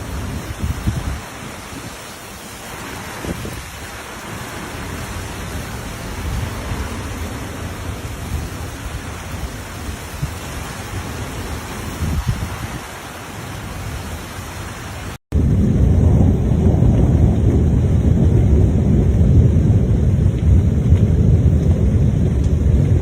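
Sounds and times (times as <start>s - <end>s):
heavy rain: 0.0s - 23.0s
low thunder rumbling: 0.0s - 23.0s.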